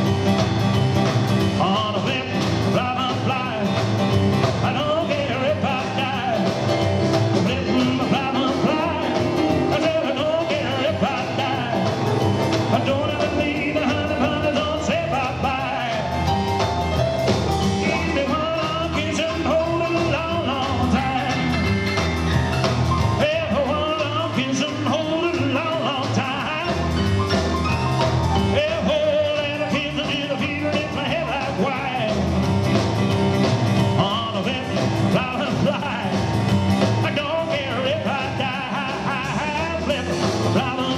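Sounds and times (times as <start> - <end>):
double bass: 0.0 - 40.9
drums: 0.0 - 40.9
piano: 0.0 - 40.9
man singing: 1.4 - 16.4, 17.6 - 22.0, 23.0 - 27.0, 28.4 - 32.5, 33.8 - 40.9.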